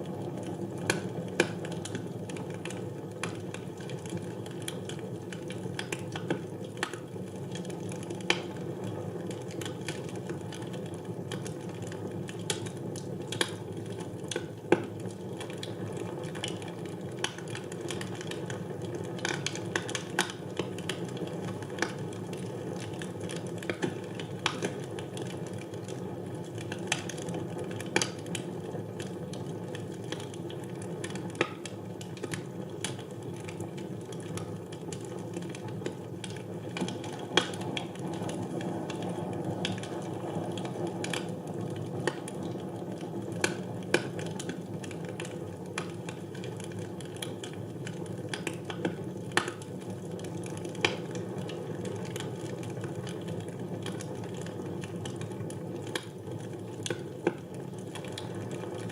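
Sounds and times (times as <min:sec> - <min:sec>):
logs crackling and popping: 0:00.0 - 0:58.9
wood fire burning: 0:00.0 - 0:58.9.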